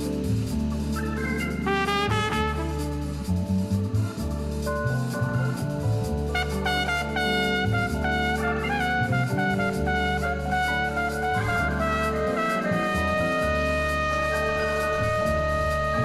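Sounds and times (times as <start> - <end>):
low bass line: 0.0 - 16.0
melody of held notes: 0.0 - 16.0.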